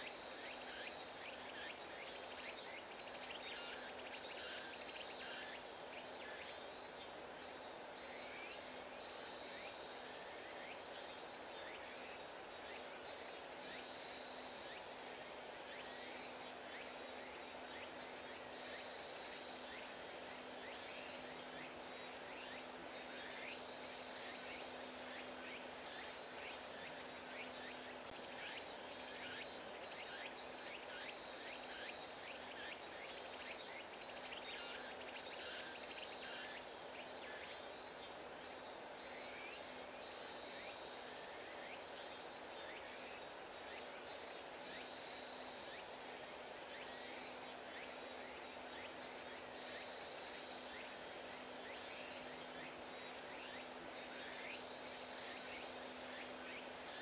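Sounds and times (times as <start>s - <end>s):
insects chirping in trills: 0.0s - 57.0s.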